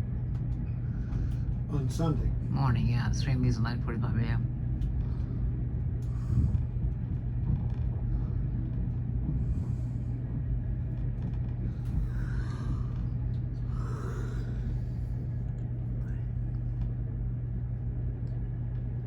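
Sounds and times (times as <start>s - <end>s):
train car rumble and hum: 0.0s - 19.0s.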